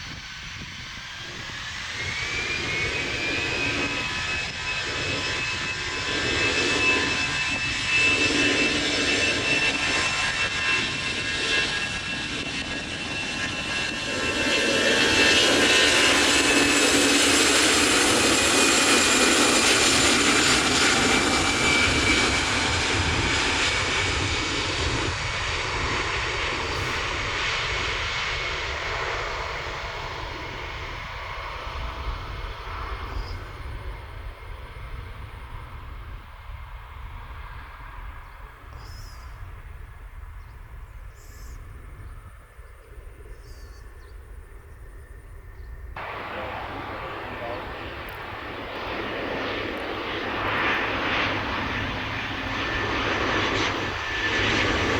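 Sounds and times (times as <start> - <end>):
jet engines passing close: 0.0 - 54.9.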